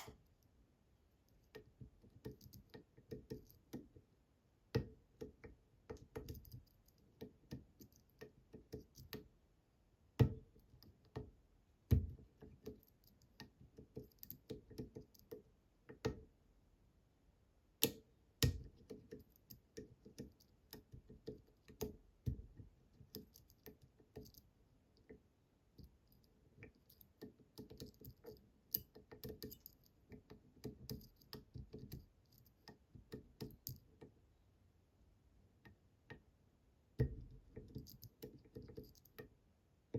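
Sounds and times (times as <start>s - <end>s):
lock pick clicks and taps: 1.3s - 4.0s, 4.7s - 9.3s, 10.2s - 16.3s, 17.8s - 34.2s, 36.9s - 39.4s.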